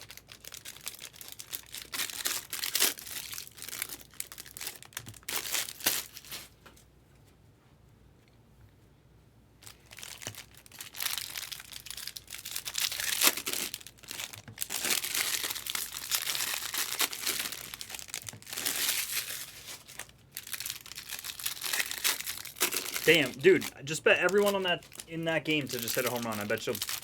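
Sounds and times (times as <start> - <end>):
foil wrappers crinkling and tearing: 0.0 - 6.6, 9.6 - 27.0.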